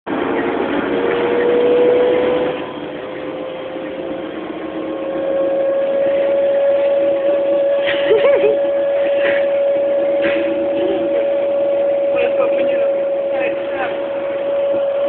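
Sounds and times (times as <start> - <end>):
coach engine drone: 0.1 - 15.0
road noise: 0.1 - 15.0.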